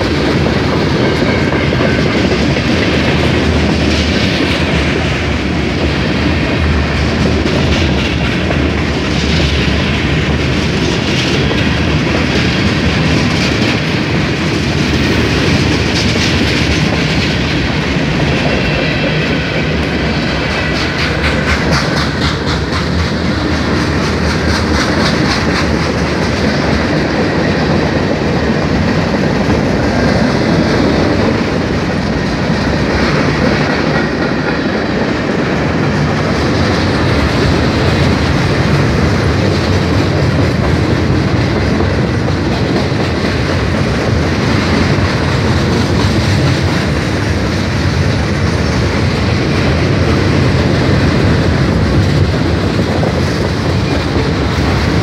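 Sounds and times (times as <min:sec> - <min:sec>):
freight train rolling past: 0:00.0 - 0:55.0
wheels clickety-clack on rail joints: 0:00.0 - 0:55.0.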